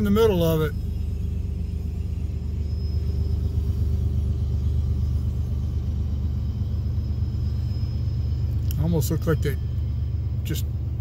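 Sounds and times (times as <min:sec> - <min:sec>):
freight train locomotives rumbling: 0:00.0 - 0:11.0.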